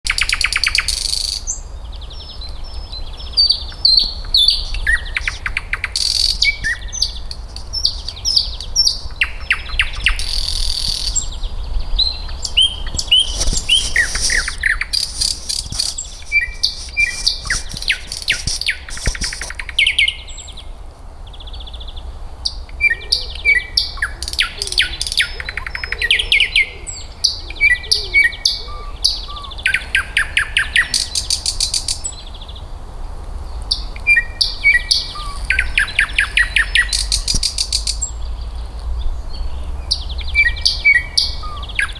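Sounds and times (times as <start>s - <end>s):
nightingale singing: 0.1s - 32.7s, 33.4s - 41.9s.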